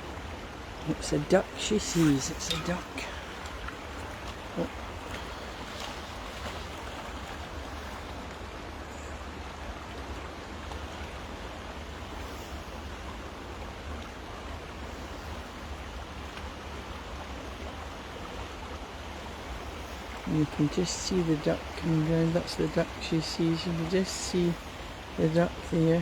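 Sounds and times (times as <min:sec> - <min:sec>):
rain falling on water: 0:00.0 - 0:26.0
river rushing: 0:00.0 - 0:26.0.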